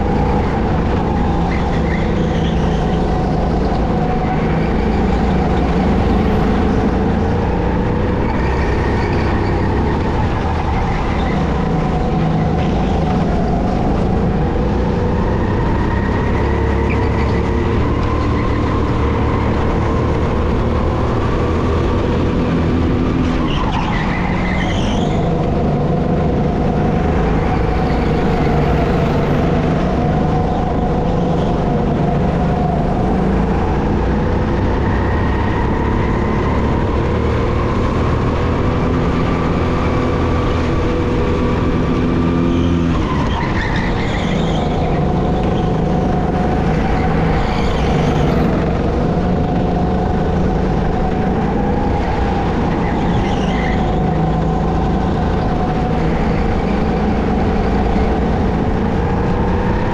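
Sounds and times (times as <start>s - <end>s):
tyre squeal: 0.0s - 21.5s, 22.6s - 31.8s, 34.5s - 49.7s, 50.8s - 59.9s
kart engine revving: 0.0s - 59.9s.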